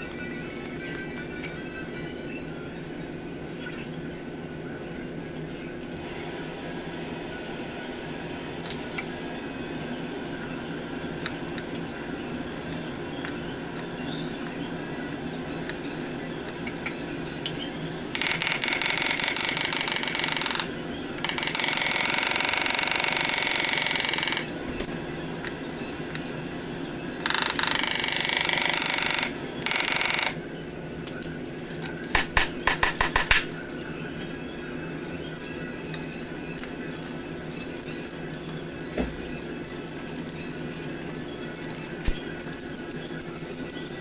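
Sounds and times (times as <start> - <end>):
steady background hum: 0.0 - 44.0.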